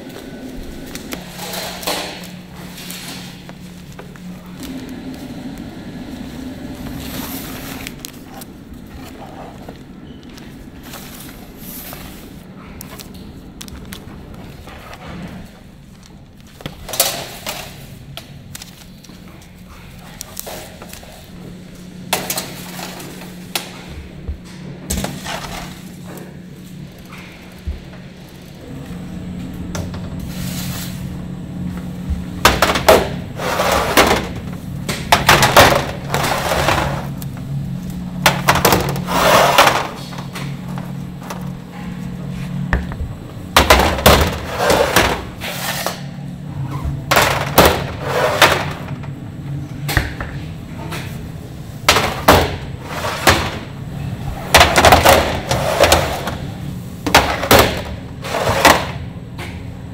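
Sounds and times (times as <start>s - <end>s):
machinery hum: 0.0s - 59.9s.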